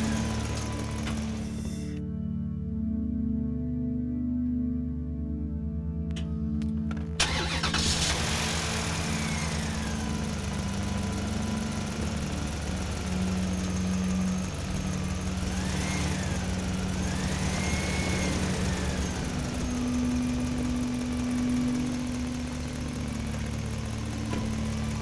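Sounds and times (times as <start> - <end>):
excavator engine running: 0.0 - 2.4, 6.1 - 25.0.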